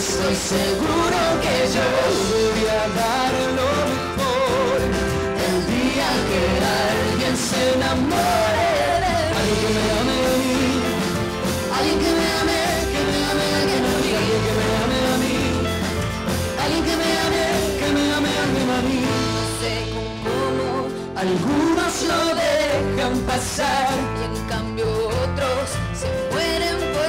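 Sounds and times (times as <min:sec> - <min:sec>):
acoustic guitar: 0:00.0 - 0:27.0
band playing: 0:00.0 - 0:27.0
person singing: 0:00.0 - 0:27.0.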